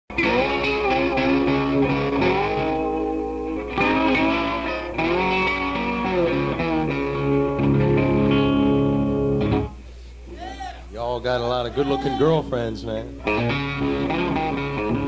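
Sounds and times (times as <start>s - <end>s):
electric guitar gliding notes: 0.1s - 9.8s, 12.2s - 15.0s
electric guitar held chord: 0.1s - 9.8s, 11.8s - 15.0s.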